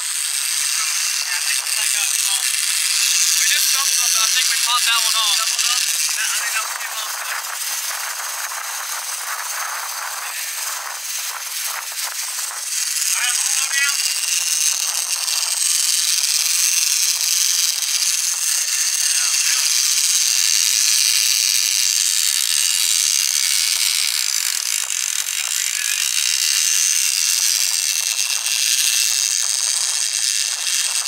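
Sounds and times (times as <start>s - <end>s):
fishing reel gears rattling: 0.0s - 31.0s.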